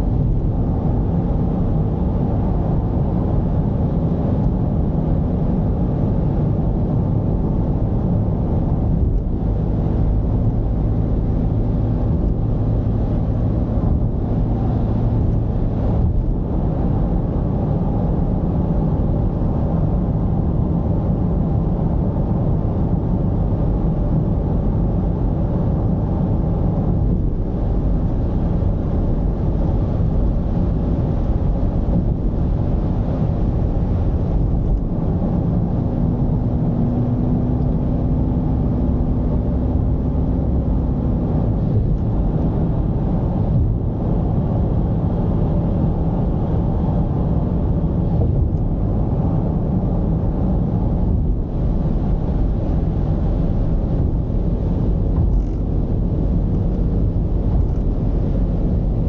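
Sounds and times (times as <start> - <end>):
diesel engine rumble: 0.0 - 59.0
road noise: 0.0 - 59.0.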